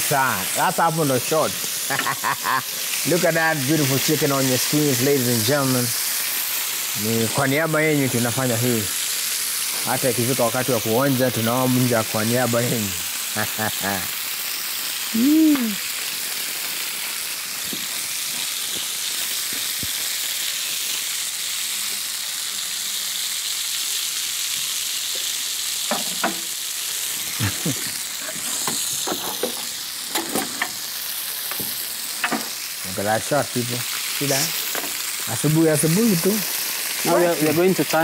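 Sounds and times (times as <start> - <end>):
chicken sizzling in oil: 0.0 - 38.0.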